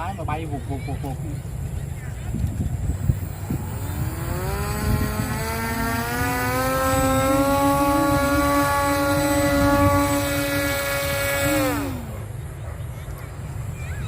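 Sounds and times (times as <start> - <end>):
model airplane motor whining: 0.3 - 13.8.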